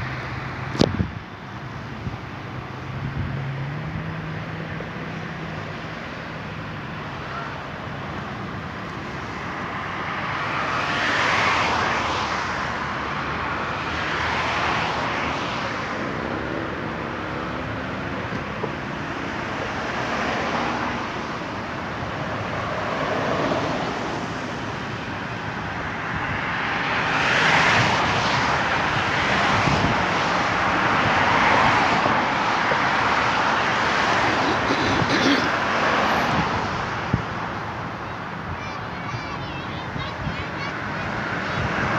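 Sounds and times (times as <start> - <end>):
rush of vehicle noise: 0.0 - 41.9.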